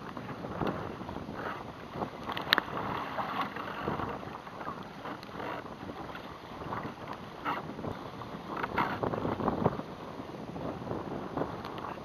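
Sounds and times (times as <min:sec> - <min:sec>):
waves slapping against kayak hull: 0:00.0 - 0:12.0
wind buffeting microphone: 0:00.0 - 0:12.0.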